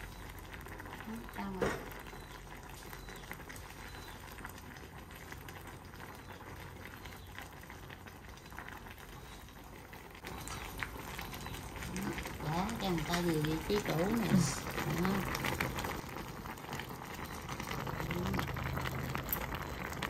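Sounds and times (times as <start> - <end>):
pot bubbling: 0.0 - 20.0.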